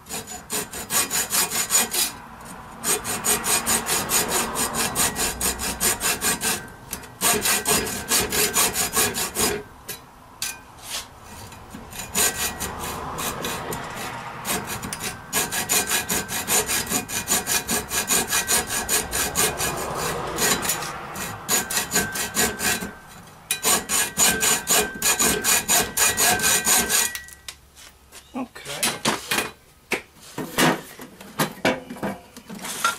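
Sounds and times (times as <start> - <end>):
hacksaw cutting steel: 0.0 - 27.5, 32.6 - 32.9.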